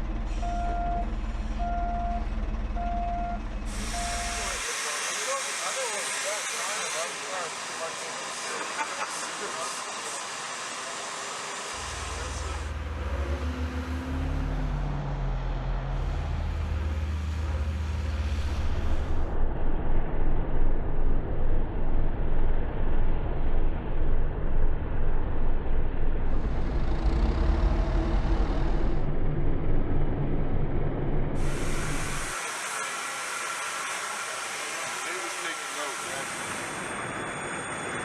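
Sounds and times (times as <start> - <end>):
heavy mechanical rumble: 0.0 - 7.2, 11.6 - 35.0.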